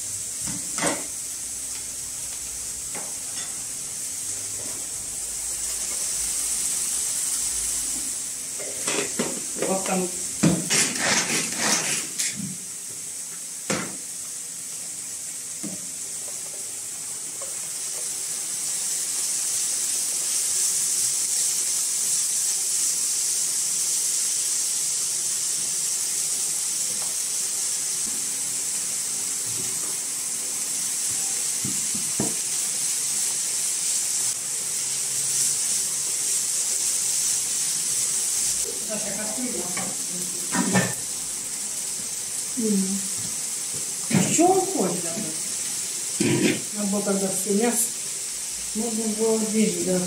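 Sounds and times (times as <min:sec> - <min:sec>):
food sizzling in a frying pan: 0:00.0 - 0:50.0.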